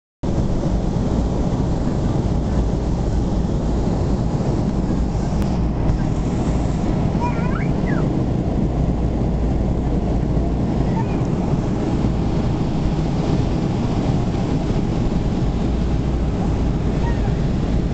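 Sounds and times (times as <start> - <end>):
airflow over fuselage: 0.2 - 17.9
airliner cabin engine rumble: 0.2 - 17.9.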